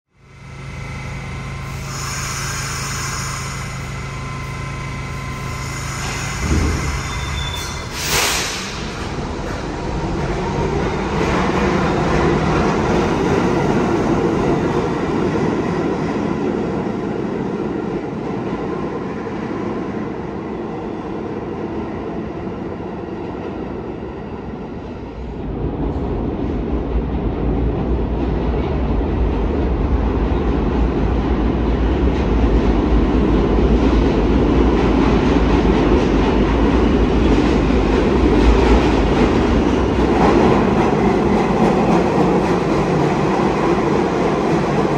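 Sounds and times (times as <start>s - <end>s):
subway train pulling out: 0.1s - 44.9s
train rumbling through tunnel: 0.1s - 44.9s.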